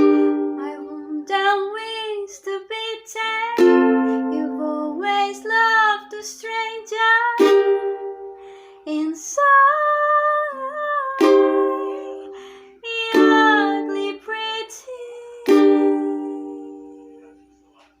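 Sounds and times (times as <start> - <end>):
ukulele strumming chords: 0.0 - 17.6.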